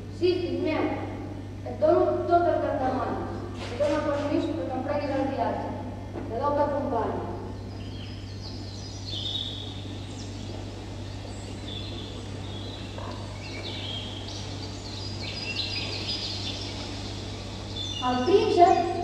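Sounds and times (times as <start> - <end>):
low electrical hum: 0.0 - 19.0
recorded birdsong over speakers: 0.0 - 19.0.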